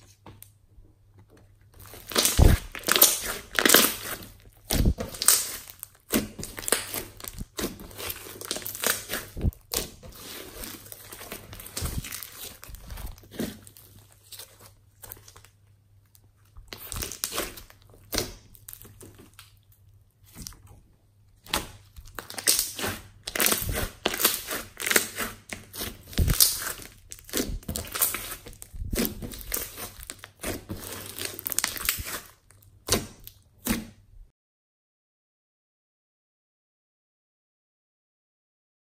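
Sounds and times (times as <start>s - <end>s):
sticky slime crackling and popping: 1.8s - 20.6s, 21.4s - 33.9s.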